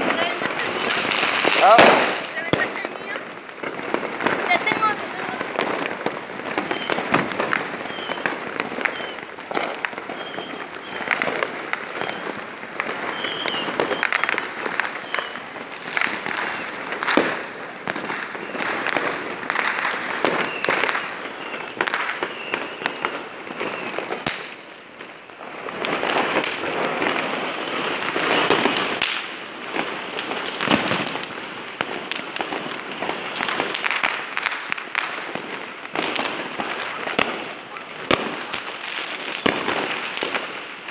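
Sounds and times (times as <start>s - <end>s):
firecrackers and fireworks popping: 0.0s - 40.9s.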